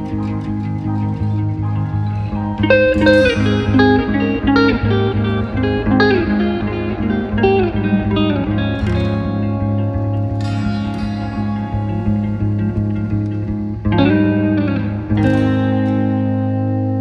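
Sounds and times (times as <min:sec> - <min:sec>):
plucked guitar melody: 0:00.0 - 0:17.0
repeating bass line: 0:00.0 - 0:17.0.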